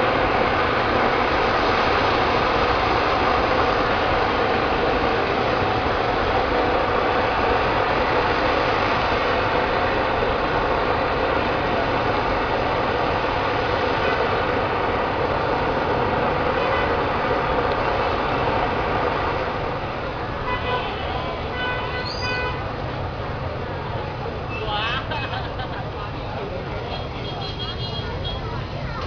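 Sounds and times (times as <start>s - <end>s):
vehicle engines idling in traffic: 0.0s - 29.0s.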